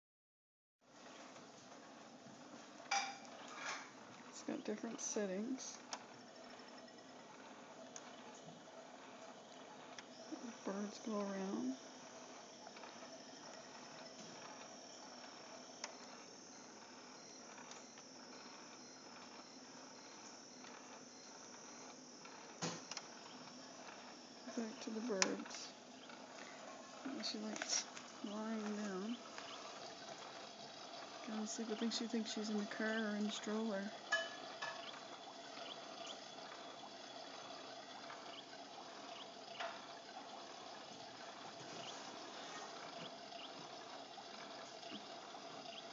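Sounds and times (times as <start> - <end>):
baby swing motor whine: 0.8 - 45.9.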